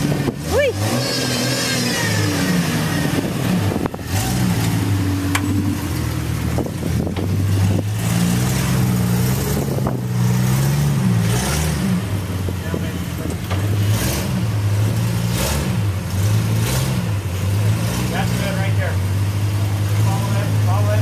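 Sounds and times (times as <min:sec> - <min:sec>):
off-road vehicle engine: 0:00.0 - 0:21.0.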